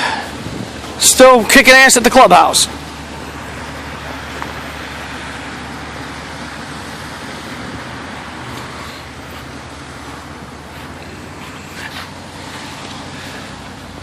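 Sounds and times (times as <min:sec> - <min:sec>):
constant hiss: 0:00.0 - 0:14.0
low engine hum: 0:00.0 - 0:14.0.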